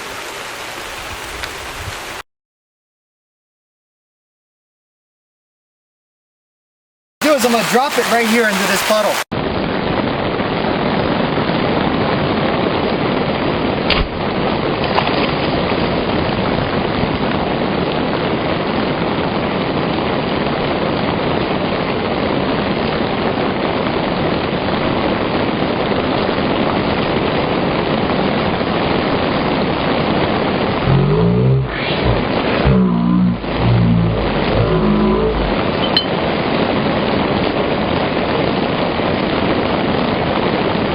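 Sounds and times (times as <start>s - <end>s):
steady rain hiss: 0.0s - 2.2s, 7.2s - 40.9s.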